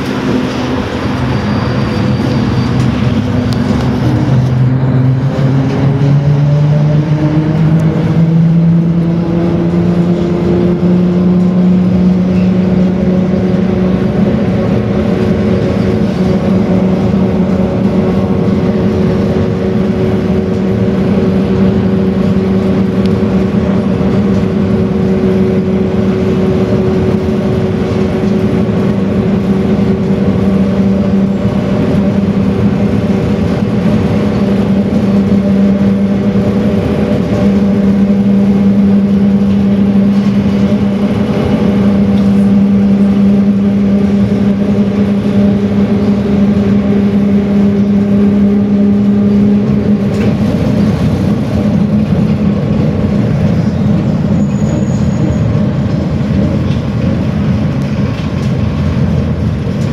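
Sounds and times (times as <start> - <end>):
electric traction drive whine: 0.0 - 59.9
tyre and road rumble: 0.0 - 59.9.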